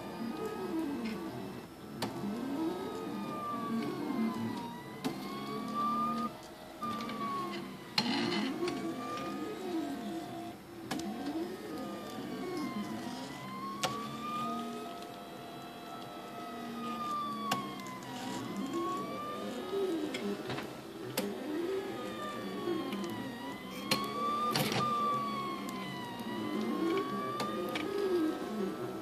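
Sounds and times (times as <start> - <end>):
stepper motors whining: 0.0 - 29.0.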